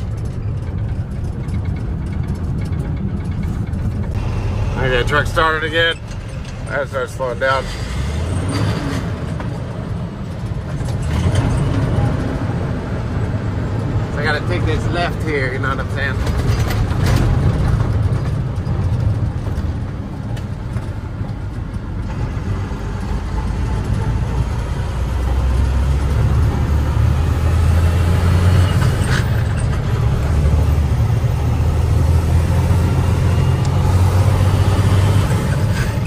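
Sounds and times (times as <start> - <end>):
truck diesel engine running: 0.0 - 8.3, 9.2 - 36.0.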